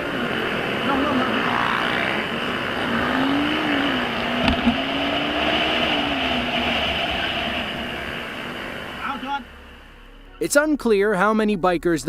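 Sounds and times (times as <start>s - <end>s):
motorcycle engine running: 0.0s - 9.9s
road and wind noise: 0.0s - 10.5s.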